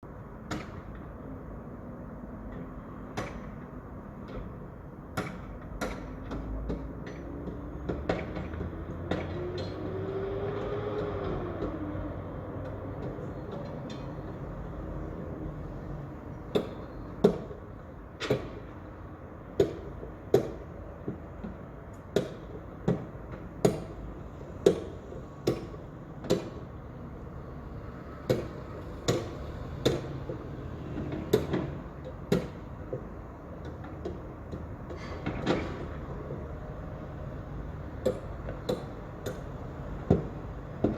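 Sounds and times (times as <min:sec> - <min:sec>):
low rumble of site noise: 0:00.0 - 0:40.9.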